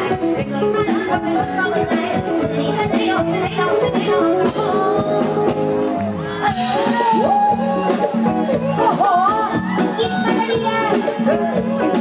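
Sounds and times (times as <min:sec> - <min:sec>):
steady drum beat: 0:00.0 - 0:12.0
upbeat live band music: 0:00.0 - 0:12.0.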